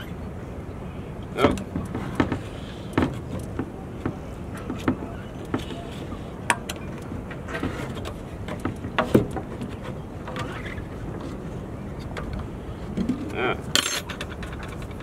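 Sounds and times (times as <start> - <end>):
low outdoor hum: 0.0 - 15.0.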